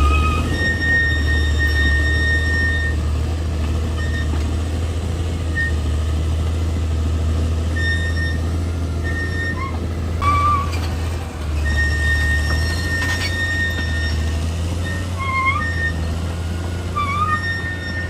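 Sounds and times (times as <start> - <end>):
high-pitched squeals: 0.0 - 4.5, 5.5 - 6.0, 7.7 - 18.0
bulldozer diesel engine droning: 0.0 - 18.0.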